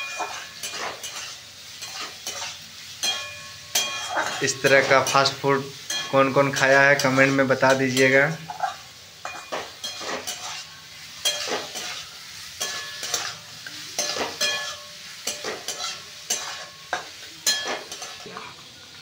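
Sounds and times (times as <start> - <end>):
spatula scraping and clinking on wok: 0.0 - 18.7
vegetables sizzling: 0.0 - 19.0.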